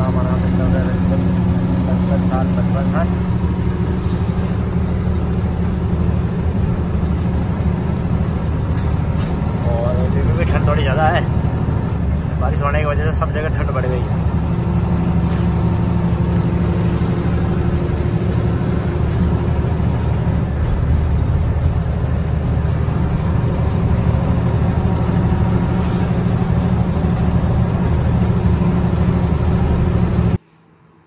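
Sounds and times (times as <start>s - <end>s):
road noise: 0.0s - 31.0s
truck diesel engine drone: 0.0s - 31.0s.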